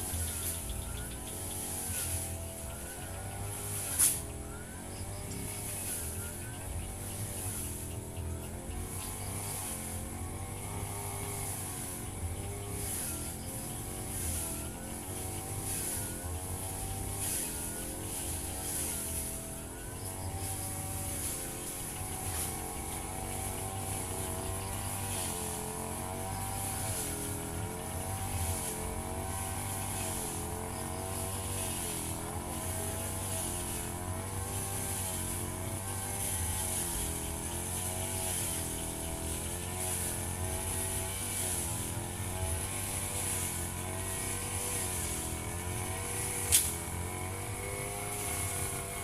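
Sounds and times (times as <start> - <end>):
brush cutter cutting grass: 0.0 - 49.0.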